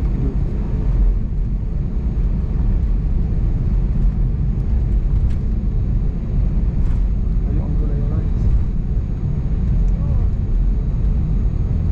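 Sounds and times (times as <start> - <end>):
airliner cabin engine rumble: 0.0 - 11.9.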